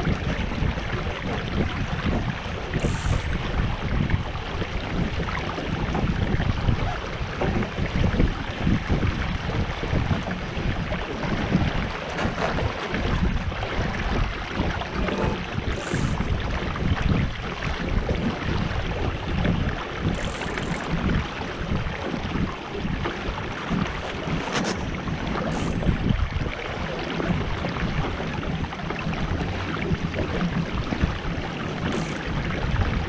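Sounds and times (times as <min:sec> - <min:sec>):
water lapping along hull: 0:00.0 - 0:33.0
wind buffeting microphone: 0:00.0 - 0:33.0.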